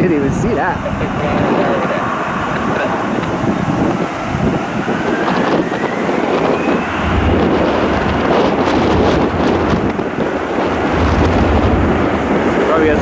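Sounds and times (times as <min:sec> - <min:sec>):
faint jet engine whine: 0:00.0 - 0:13.0
wind buffeting microphone: 0:00.0 - 0:13.0.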